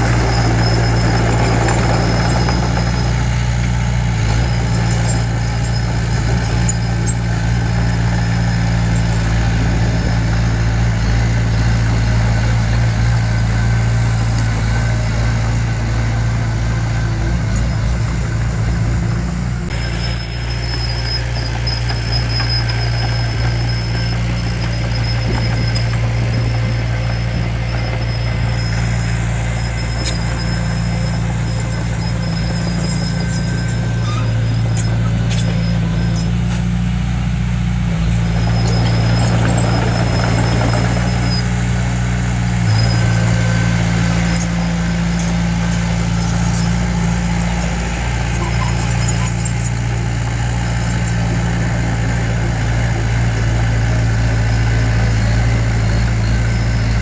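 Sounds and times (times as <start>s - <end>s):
high squeaks and clicks: 0.0s - 14.9s, 19.7s - 37.0s, 37.9s - 41.8s, 42.6s - 52.6s
heavy diesel engine running: 0.0s - 57.0s.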